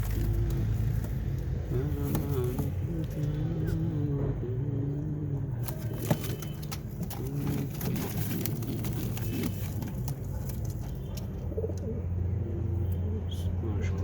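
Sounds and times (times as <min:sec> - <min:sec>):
pigeons cooing: 0:00.0 - 0:13.6.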